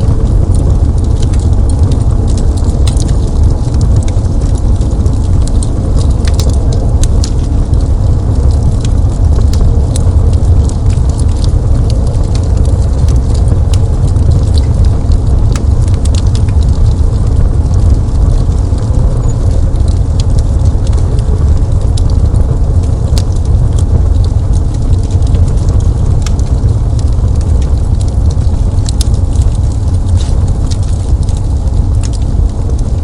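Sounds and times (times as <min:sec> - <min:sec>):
steady low rumble: 0:00.0 - 0:33.0
wood fire crackling: 0:00.0 - 0:33.0.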